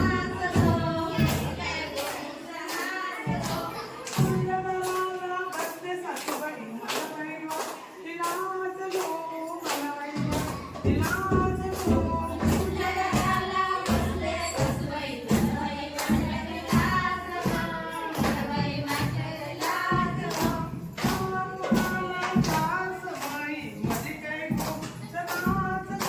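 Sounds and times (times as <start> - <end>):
group singing folk song: 0.0 - 8.4, 9.0 - 26.0
rhythmic sharp claps: 0.0 - 26.0.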